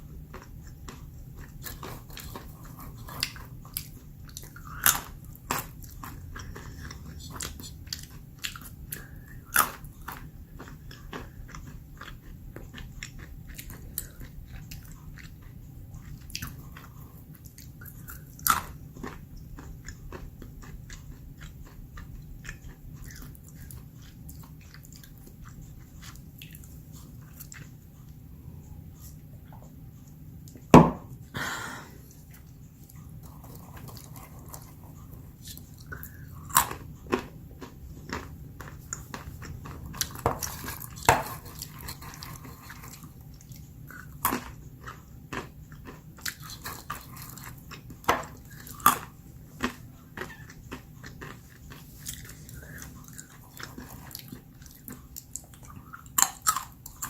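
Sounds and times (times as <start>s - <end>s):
person chewing almonds: 0.0s - 57.0s.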